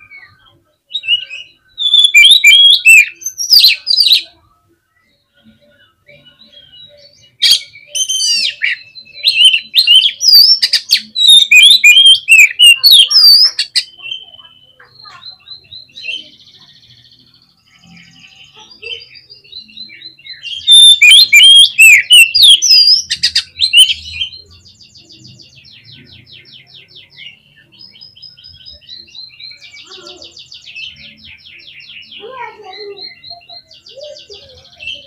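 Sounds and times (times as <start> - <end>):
bird singing trills and whistles: 0.0 - 35.0.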